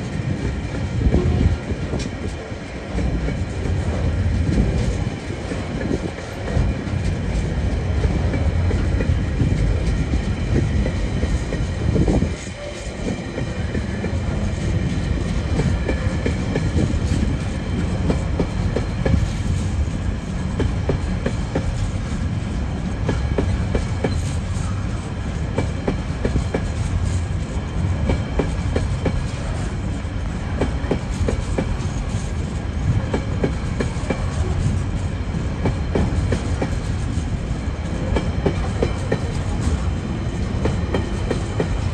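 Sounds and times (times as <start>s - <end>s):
freight train wagons rumbling: 0.0s - 41.9s
train wheel clicks: 0.1s - 19.8s, 20.4s - 22.1s, 22.8s - 24.8s, 25.4s - 29.7s, 30.5s - 41.9s.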